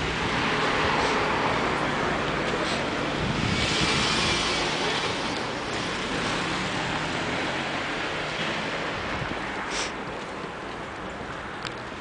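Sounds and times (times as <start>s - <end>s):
passing traffic hiss: 0.0s - 10.2s
low rumble of cars: 0.0s - 12.0s.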